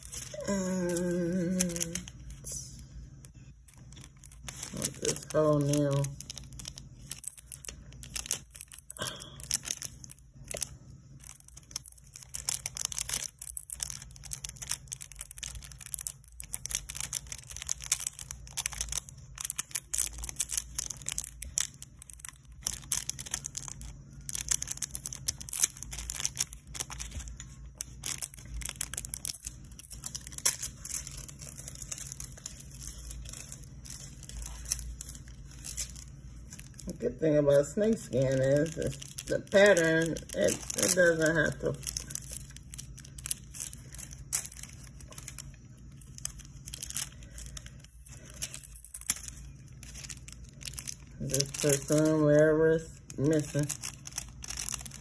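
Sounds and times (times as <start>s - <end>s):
foil crinkling and rustling: 0.0s - 55.0s.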